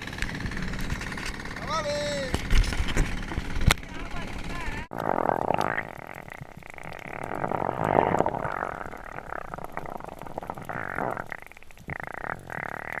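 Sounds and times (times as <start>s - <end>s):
water sloshing and bubbling: 2.4s - 13.0s.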